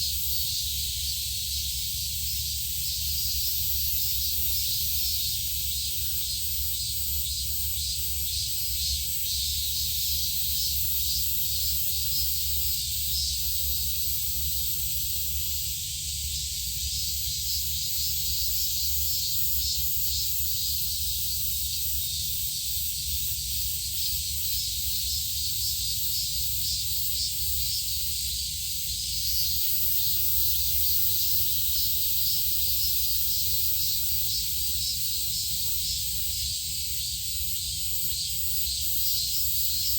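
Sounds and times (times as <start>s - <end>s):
pulsing insect chorus: 0.0s - 39.9s.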